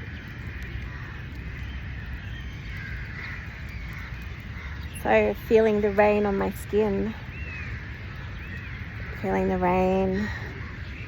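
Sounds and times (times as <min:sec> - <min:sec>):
birds calling: 0:00.0 - 0:11.0
steady rain falling: 0:00.0 - 0:11.0.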